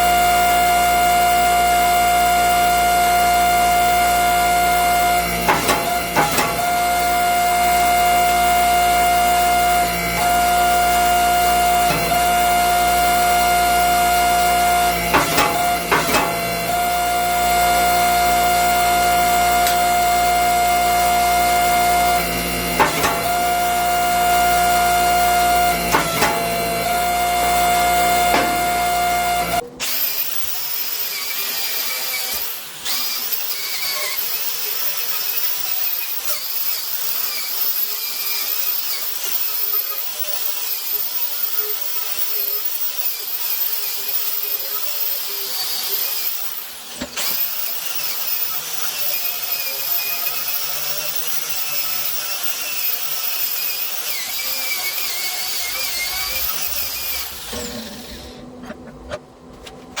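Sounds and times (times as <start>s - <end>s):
power tool whining on steel: 0.0s - 59.2s.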